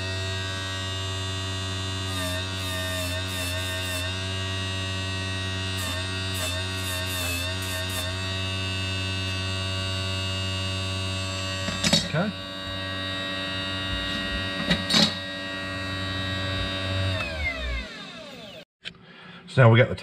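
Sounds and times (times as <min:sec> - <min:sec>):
electric motor whine: 0:00.0 - 0:18.6
motor winding down: 0:00.0 - 0:18.7.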